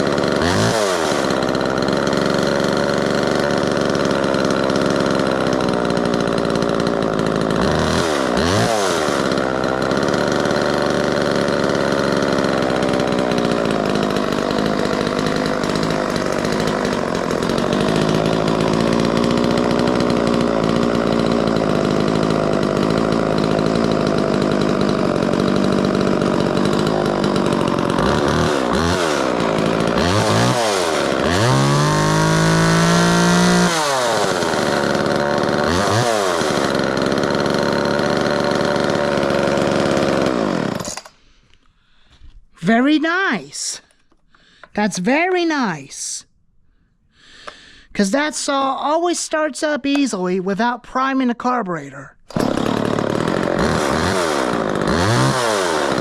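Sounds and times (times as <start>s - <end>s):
chainsaw engine revving: 0.0s - 41.4s, 52.3s - 56.0s.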